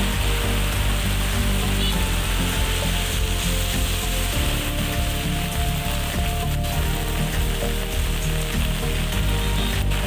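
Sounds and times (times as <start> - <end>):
heavy rain on pavement: 0.0 - 10.0
music of held notes: 0.0 - 10.0.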